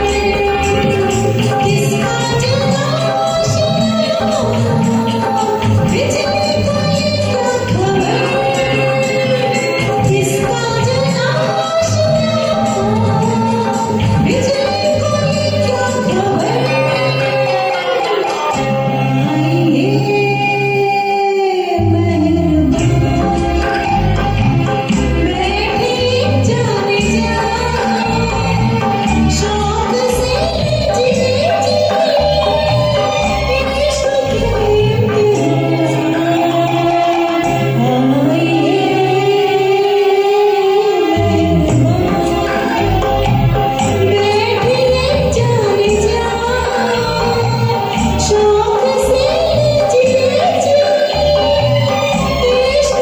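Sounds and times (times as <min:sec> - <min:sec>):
karaoke backing track: 0:00.0 - 0:53.0
woman singing: 0:00.0 - 0:53.0.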